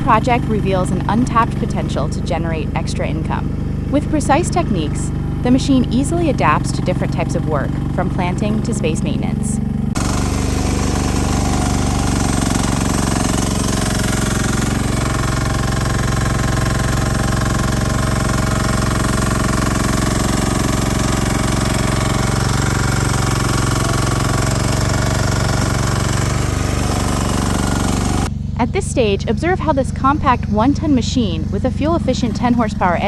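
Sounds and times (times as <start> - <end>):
small excavator engine running: 0.0 - 33.0.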